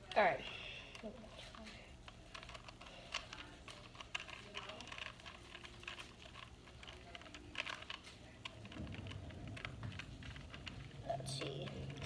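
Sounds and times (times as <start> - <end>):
plastic puzzle cube clicking: 0.9 - 12.0.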